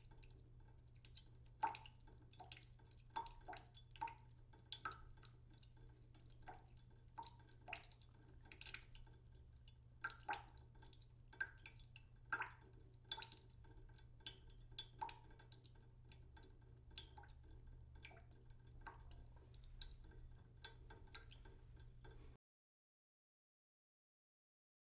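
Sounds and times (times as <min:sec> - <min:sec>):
low steady hum: 0:00.0 - 0:22.4.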